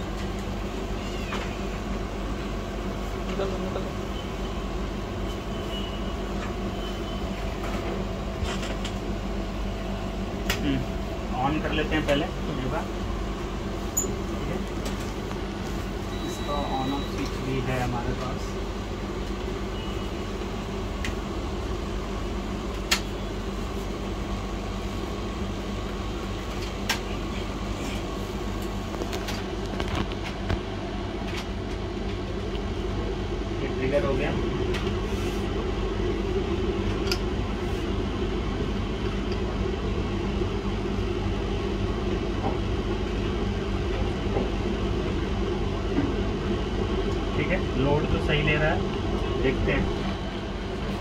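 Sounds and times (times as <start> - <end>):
workshop equipment humming: 0.0 - 51.0.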